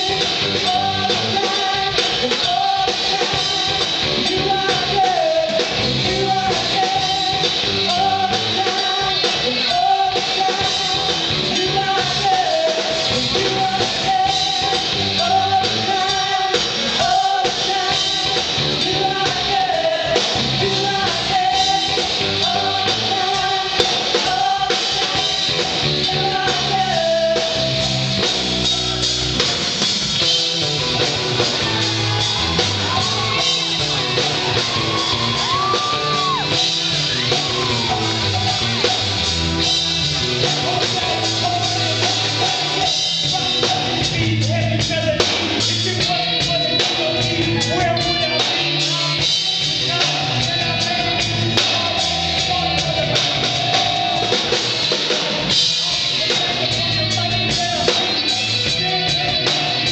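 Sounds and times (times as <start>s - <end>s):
sung and shouted vocals: 0.0s - 28.0s, 31.4s - 59.9s
drum kit: 0.0s - 59.9s
electric guitar: 0.0s - 59.9s.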